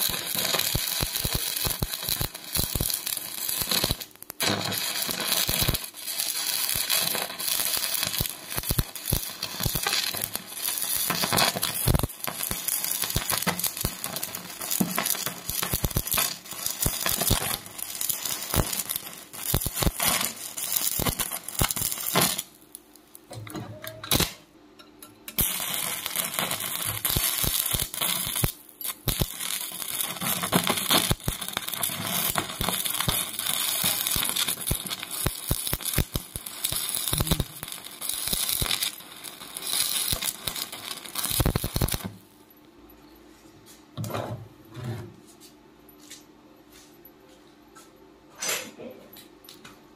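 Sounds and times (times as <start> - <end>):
welding arc crackling: 0.0 - 23.3, 24.1 - 24.4, 25.3 - 42.3.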